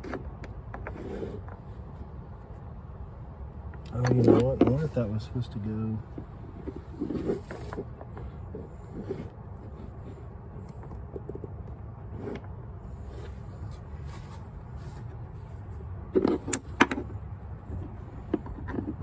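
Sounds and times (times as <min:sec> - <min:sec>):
light handling noise: 0:03.6 - 0:19.0.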